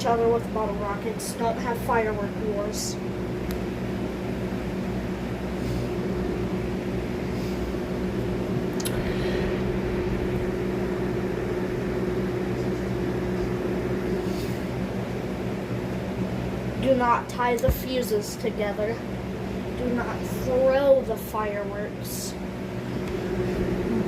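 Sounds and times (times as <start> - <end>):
machine hum with droning tone: 0.0 - 24.0.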